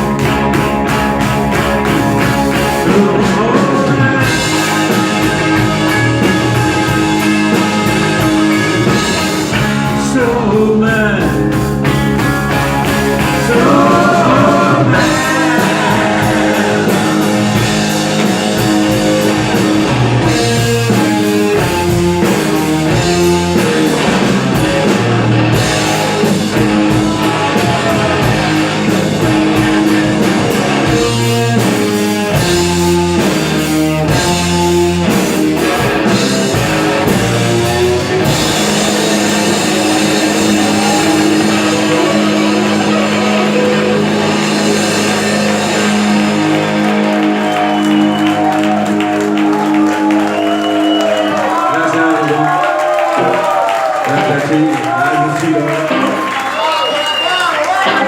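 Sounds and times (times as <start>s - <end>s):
rock band playing instrumental: 0.0s - 58.0s.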